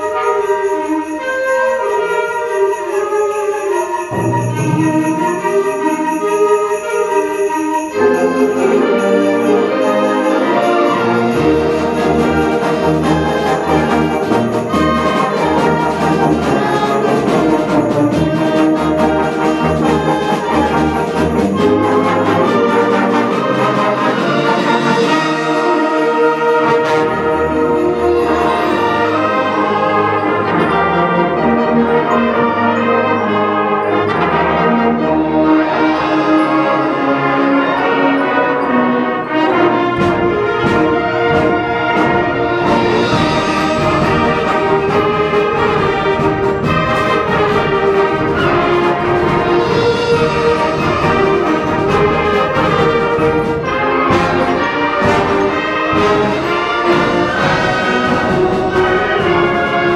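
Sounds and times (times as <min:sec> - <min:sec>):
concert band playing: 0:00.0 - 0:59.9.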